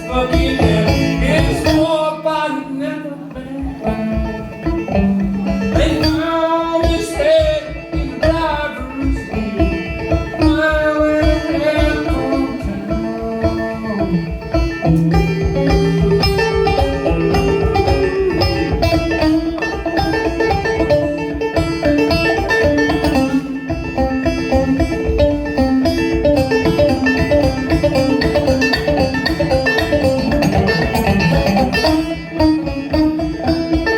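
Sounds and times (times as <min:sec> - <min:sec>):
banjo picking: 0:00.0 - 0:33.9
sliding melody line: 0:00.0 - 0:33.9.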